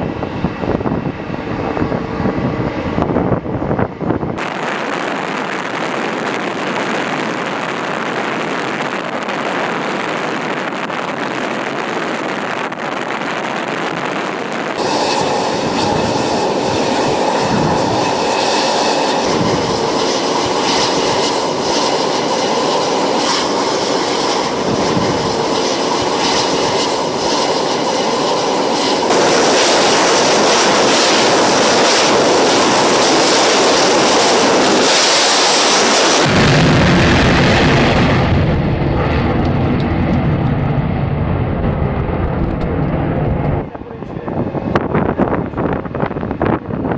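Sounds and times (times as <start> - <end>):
aircraft engines roaring: 0.0 - 46.9.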